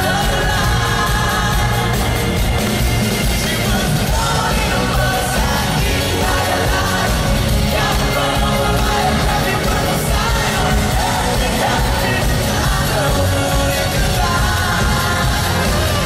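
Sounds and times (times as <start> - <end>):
live pop-rock band with singer: 0.0 - 16.0.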